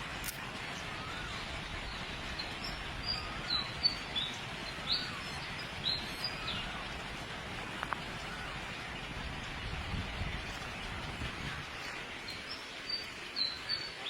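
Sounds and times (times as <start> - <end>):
outdoor background hiss: 0.0 - 14.0
birds chirping: 0.7 - 14.0.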